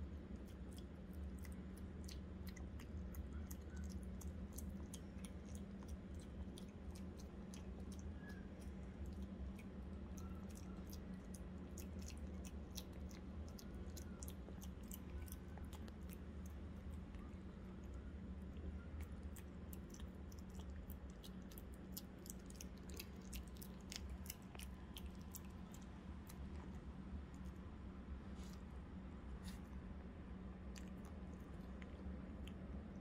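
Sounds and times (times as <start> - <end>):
puppy chewing wet clicks: 0.0 - 27.7, 30.5 - 33.0.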